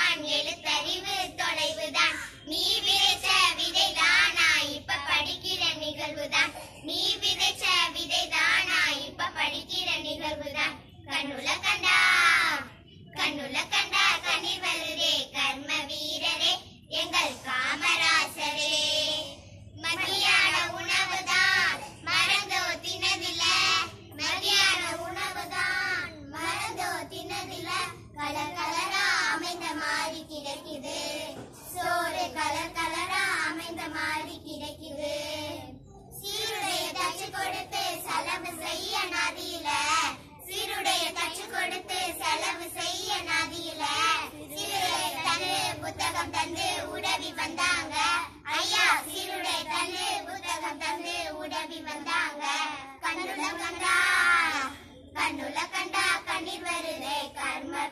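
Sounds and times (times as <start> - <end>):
girls singing together: 0.0 - 57.9.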